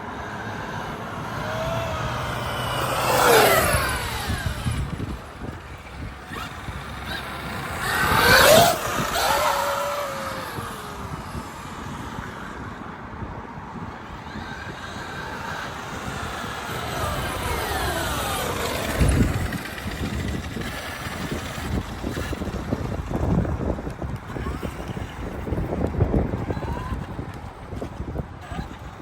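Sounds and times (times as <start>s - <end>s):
toy truck electric motor whining: 0.0s - 29.0s.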